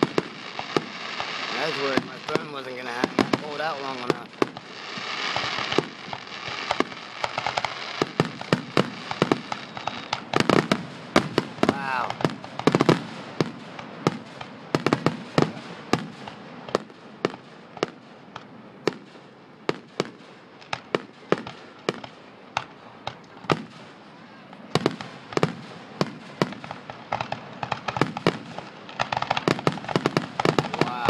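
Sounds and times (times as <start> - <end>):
fireworks bursting: 0.0 - 31.0.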